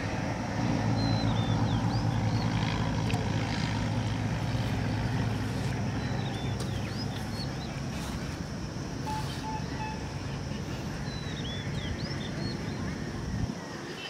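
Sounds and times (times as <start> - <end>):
motor engine droning: 0.0 - 13.5.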